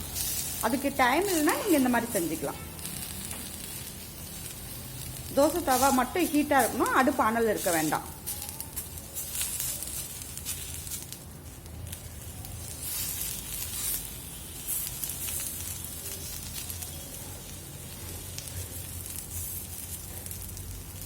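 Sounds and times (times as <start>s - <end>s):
leaves sizzling on hot griddle: 0.0s - 21.0s
small crackles: 0.0s - 21.0s.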